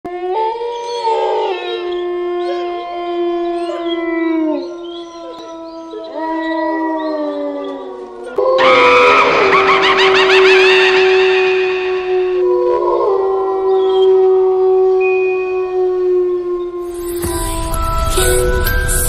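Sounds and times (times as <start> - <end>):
dogs howling: 0.1 - 17.2.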